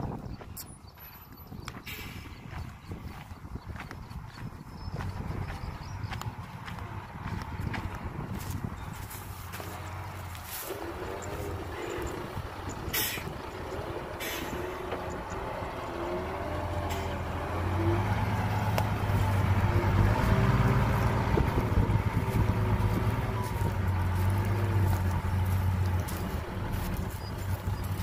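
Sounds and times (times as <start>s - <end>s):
heavy diesel engine running: 0.8s - 28.0s.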